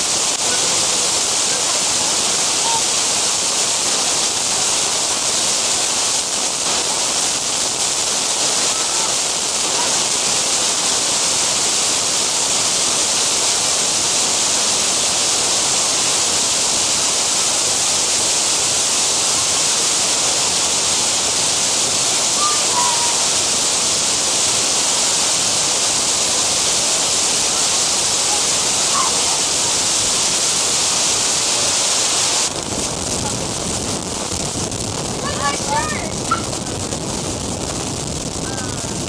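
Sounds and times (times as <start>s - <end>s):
loud steady hiss: 0.0s - 39.0s.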